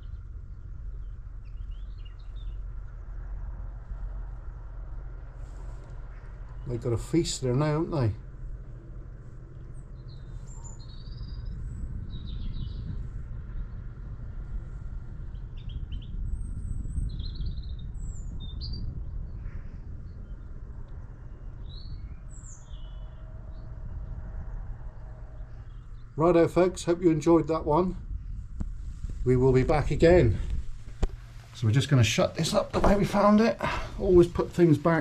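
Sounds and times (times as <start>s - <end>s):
songbirds chirping: 0.0s - 35.0s
steady low rumble: 0.0s - 35.0s.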